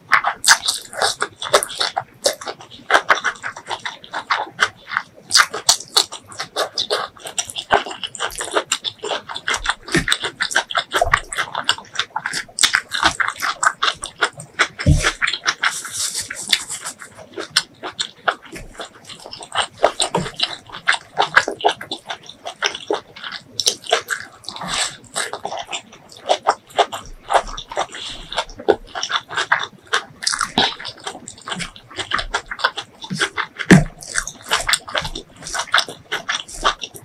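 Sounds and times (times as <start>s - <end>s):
wet chewing and crunching: 0.0s - 37.0s.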